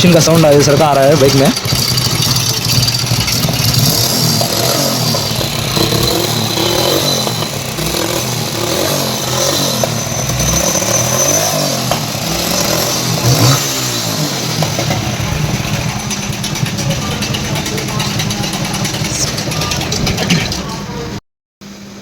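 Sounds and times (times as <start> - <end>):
motorcycle engine revving: 0.0 - 21.2
mechanical noise inside engine: 0.0 - 22.0.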